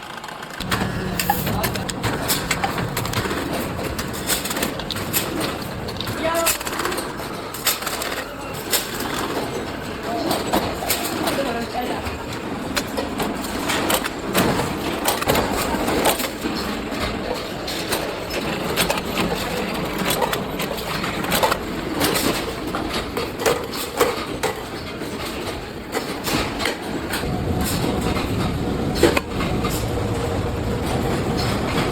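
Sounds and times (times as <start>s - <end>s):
machinery clattering: 0.1s - 31.9s.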